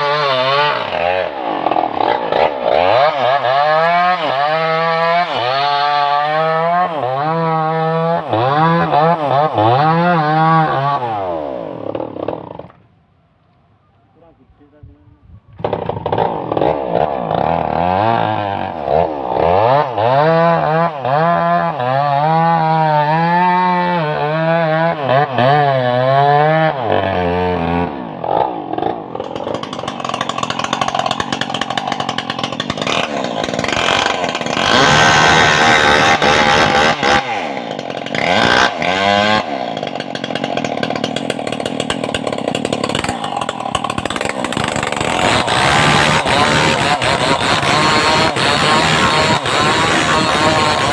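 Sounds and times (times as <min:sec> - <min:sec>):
chainsaw cutting into trunk: 0:00.0 - 0:12.8, 0:15.6 - 0:50.9
chainsaw running: 0:00.0 - 0:12.8, 0:15.6 - 0:50.9.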